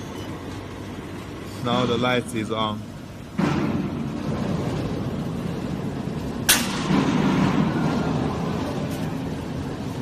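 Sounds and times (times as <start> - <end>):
mixer mechanical drone: 0.0 - 10.0.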